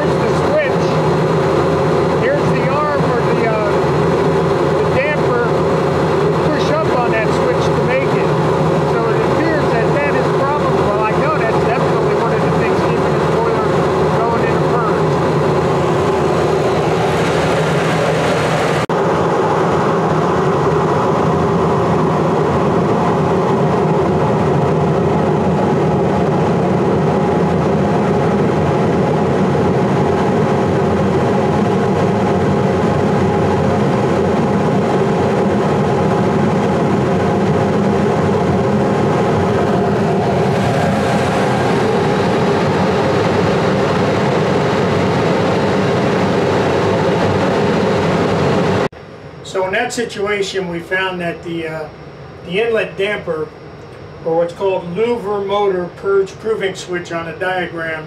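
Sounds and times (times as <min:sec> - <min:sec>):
blower humming: 0:00.0 - 0:58.0.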